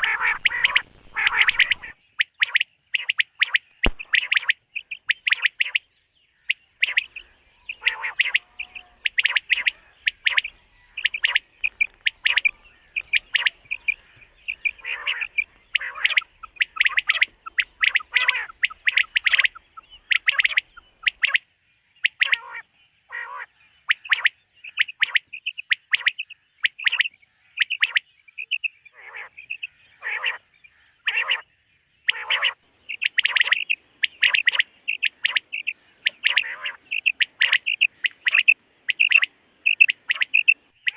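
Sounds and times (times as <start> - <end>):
quail calling: 0.0 - 31.4, 32.0 - 40.9.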